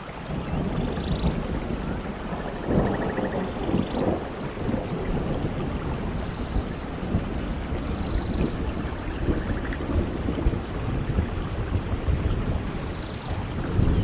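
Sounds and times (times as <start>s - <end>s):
rain falling: 0.0s - 14.0s
thunder rumbling: 0.0s - 14.0s.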